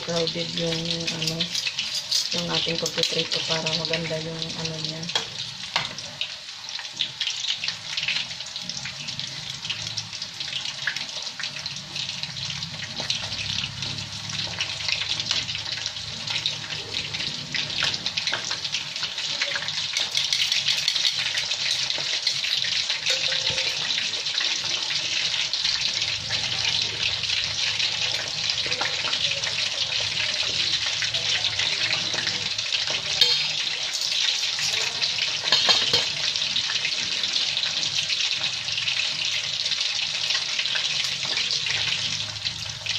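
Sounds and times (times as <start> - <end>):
chicken deep-frying in oil: 0.0 - 42.9.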